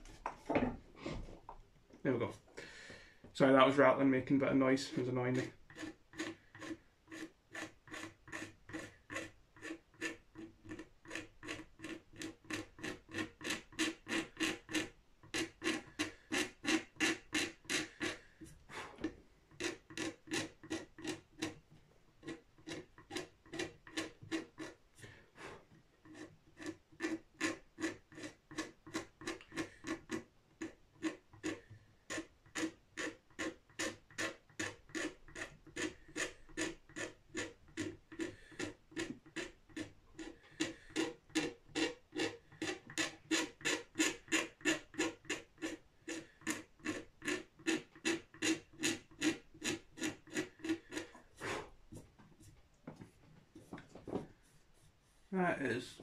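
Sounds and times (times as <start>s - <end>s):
razor blade scraping glue: 4.4s - 51.8s.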